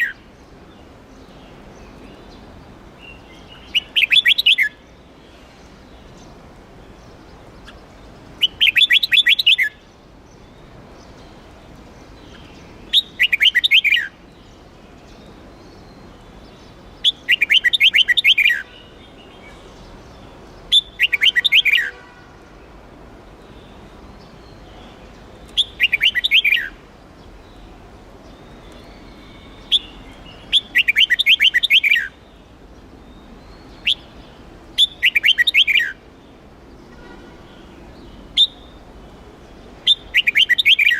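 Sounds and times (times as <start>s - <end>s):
bulbul singing: 0.0s - 5.0s, 5.8s - 22.3s, 23.4s - 40.9s.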